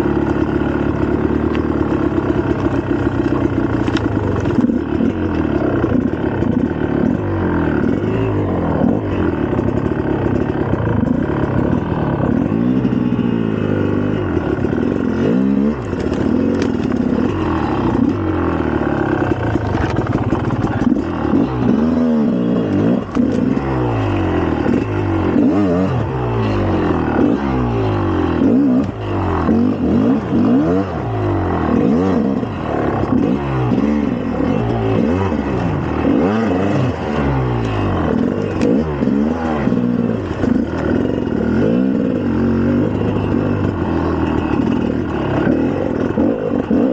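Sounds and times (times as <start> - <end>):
dirt bike engine revving: 0.0 - 46.9
engine clatter: 0.0 - 46.9.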